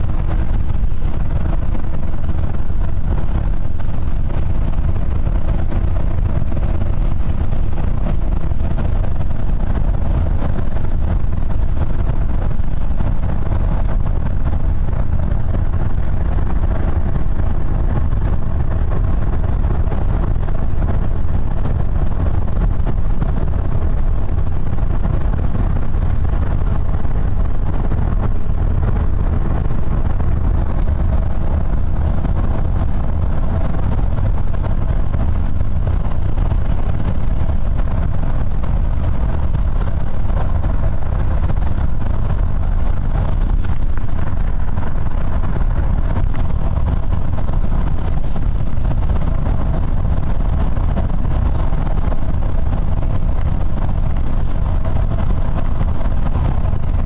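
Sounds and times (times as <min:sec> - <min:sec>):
bus engine and road drone: 0:00.0 - 0:57.0.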